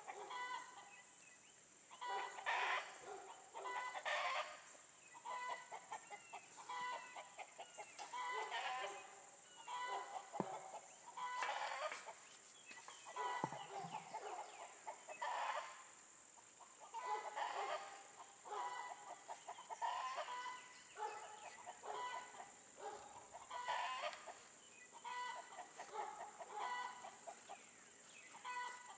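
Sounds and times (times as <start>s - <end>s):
chickens clucking: 0.0s - 1.0s, 1.9s - 28.9s.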